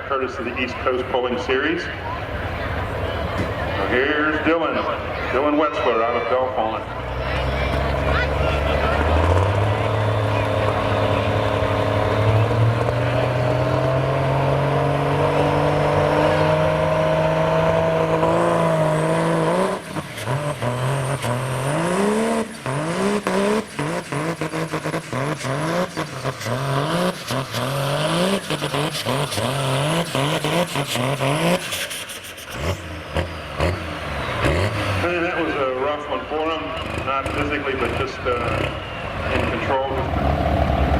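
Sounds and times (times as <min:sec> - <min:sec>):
tractor diesel engine revving: 0:00.0 - 0:40.9.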